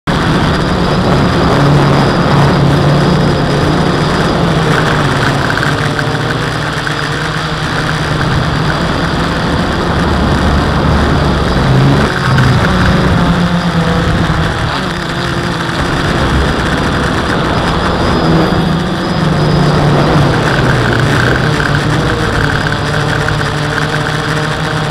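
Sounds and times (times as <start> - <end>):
quadcopter motors buzzing: 0.1 - 24.9.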